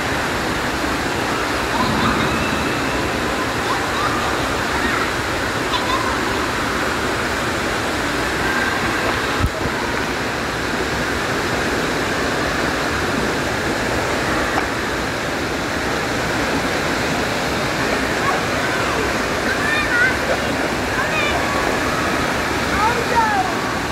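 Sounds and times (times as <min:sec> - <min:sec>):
waterfall splashing into pool: 0:00.0 - 0:23.9.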